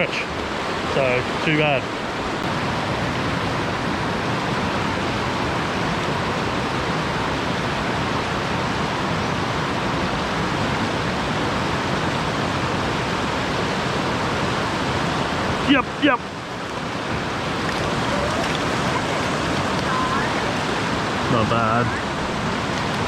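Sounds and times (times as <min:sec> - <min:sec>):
river running over rocks: 0:00.0 - 0:23.0.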